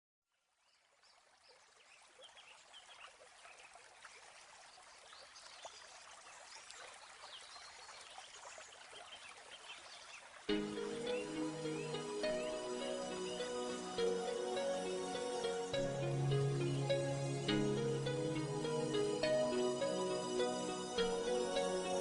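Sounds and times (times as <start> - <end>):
faint water trickling: 0.3 - 22.0.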